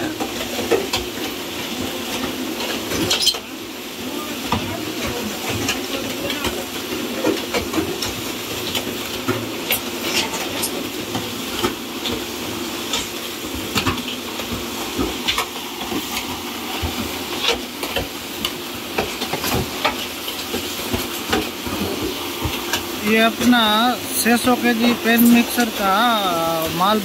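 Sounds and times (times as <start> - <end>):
concrete mixer churning: 0.0 - 27.0.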